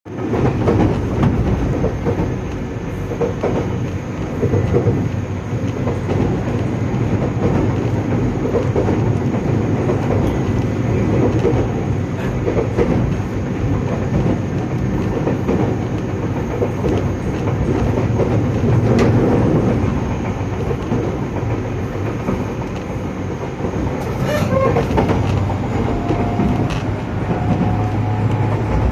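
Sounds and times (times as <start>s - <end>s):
faint abnormal noise in train car: 0.1s - 28.9s
train rumbling on rails: 0.1s - 28.9s.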